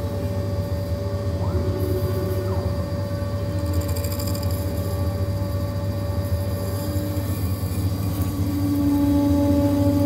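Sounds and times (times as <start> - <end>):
machine axis motor whine: 0.0 - 10.0
milling machine spindle hum: 0.0 - 10.0.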